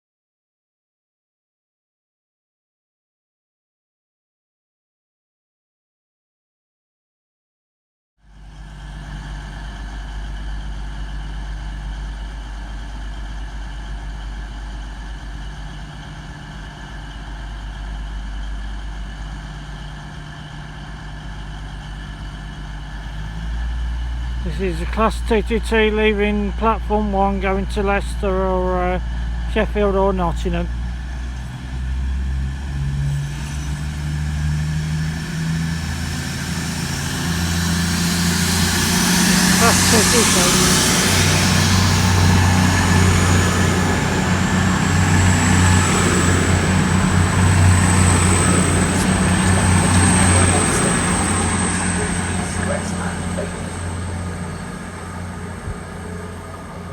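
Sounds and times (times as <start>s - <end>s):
diesel train engine hum: 8.2s - 56.9s.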